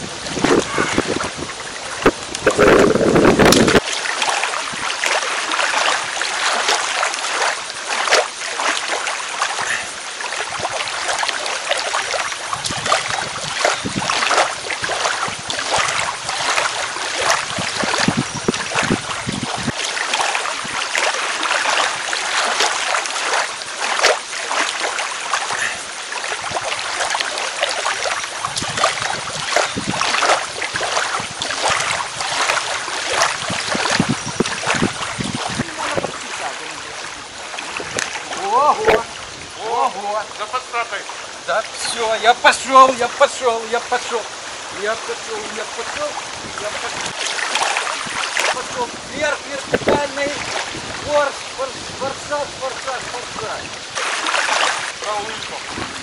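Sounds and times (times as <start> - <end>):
water splashing and lapping: 0.0 - 56.0.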